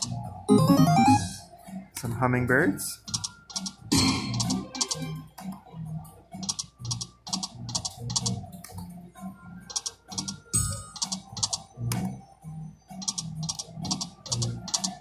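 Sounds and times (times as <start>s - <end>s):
slot machine game music: 0.0s - 15.0s.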